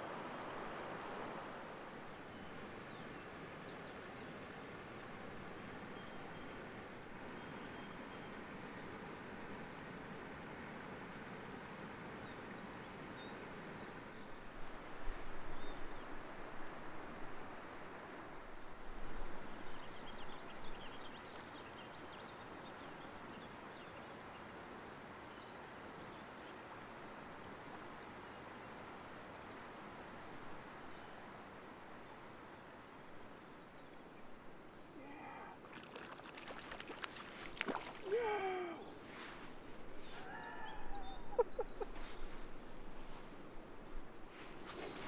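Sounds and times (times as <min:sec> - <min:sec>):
river flowing: 0:00.0 - 0:33.2, 0:35.4 - 0:45.0.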